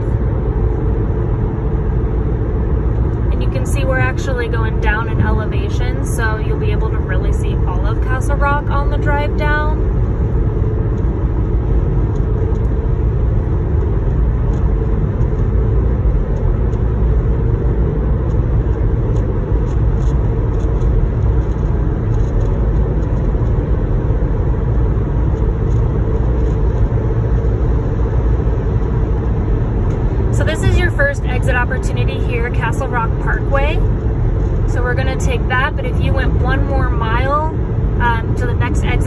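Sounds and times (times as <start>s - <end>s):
car cabin road and engine noise: 0.0s - 39.0s.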